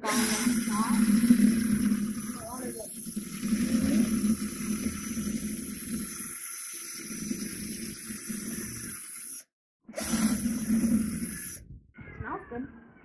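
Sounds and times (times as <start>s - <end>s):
electric drill churning pulp: 0.0s - 11.6s.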